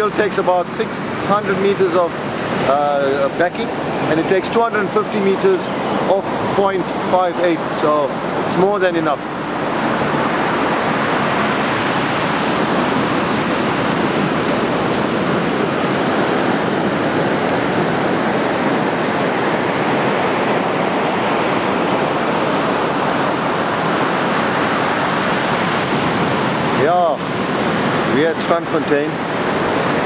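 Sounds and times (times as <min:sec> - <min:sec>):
surf breaking on beach: 0:00.0 - 0:30.0.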